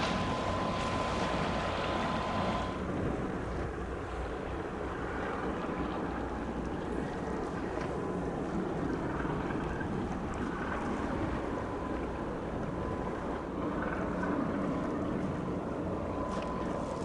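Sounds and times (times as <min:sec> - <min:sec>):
faint steady whine: 0:00.0 - 0:17.0
ship machinery rumble: 0:00.0 - 0:17.0
wind buffeting microphone: 0:00.0 - 0:17.0.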